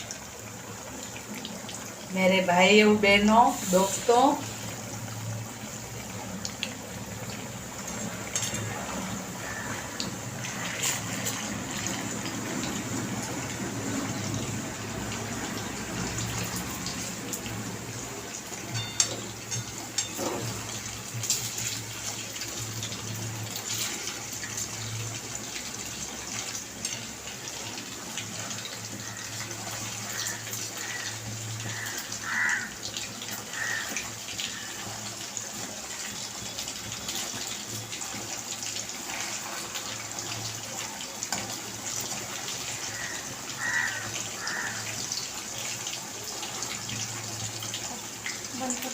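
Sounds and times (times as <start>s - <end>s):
chicken sizzling in hot oil: 0.0s - 48.9s.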